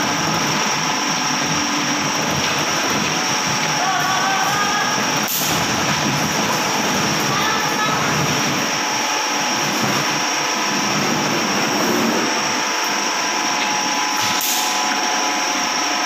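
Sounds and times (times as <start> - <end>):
machinery hum and hiss: 0.0 - 16.0.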